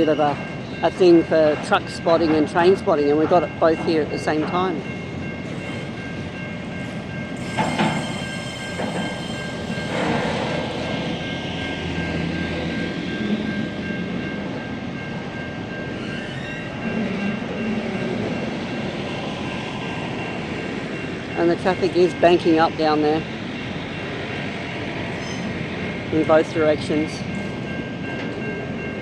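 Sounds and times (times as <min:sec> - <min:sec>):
train wheels rumbling on rail: 0:00.1 - 0:29.0.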